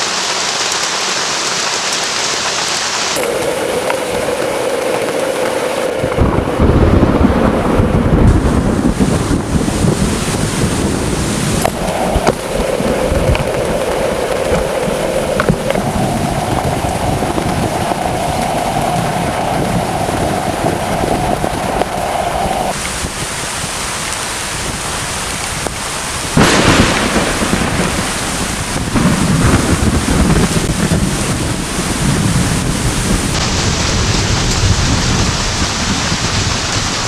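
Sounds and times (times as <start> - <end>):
heavy rain pouring: 0.0 - 37.0
thunder rumble: 3.2 - 23.8, 24.4 - 37.0.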